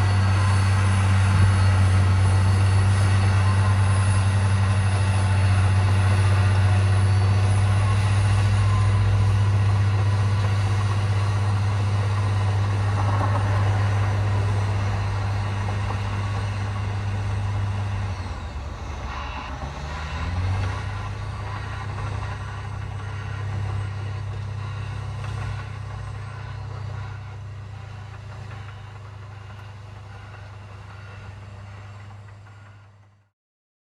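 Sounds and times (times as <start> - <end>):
bulldozer diesel engine droning: 0.0 - 33.3.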